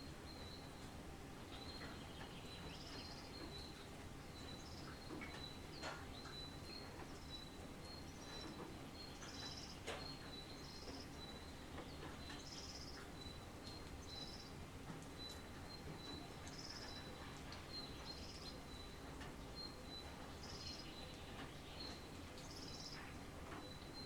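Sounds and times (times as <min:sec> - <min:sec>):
faint rain: 0:00.0 - 0:24.0
sharp drip ticks: 0:00.1 - 0:24.0.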